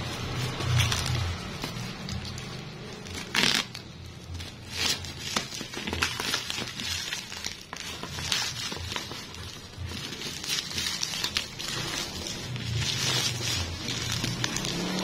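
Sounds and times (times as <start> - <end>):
plastic bag and bubble wrap crinkling: 0.0 - 15.0.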